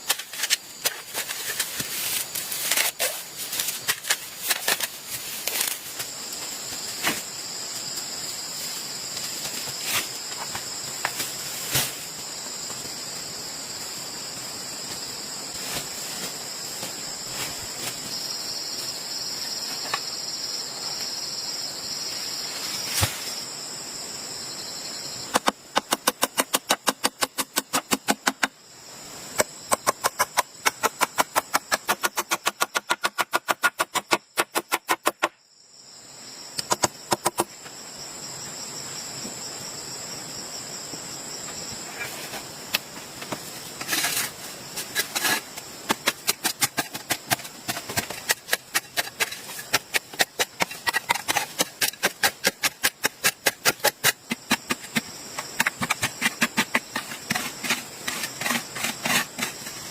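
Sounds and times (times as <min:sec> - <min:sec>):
high insect buzz: 0:00.0 - 0:59.9.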